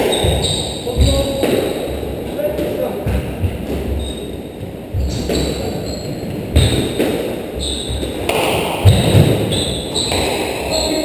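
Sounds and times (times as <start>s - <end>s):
shoe squeaks on wooden floor: 0.0s - 2.0s, 2.8s - 11.0s
squash ball hitting racket and walls: 0.0s - 11.0s.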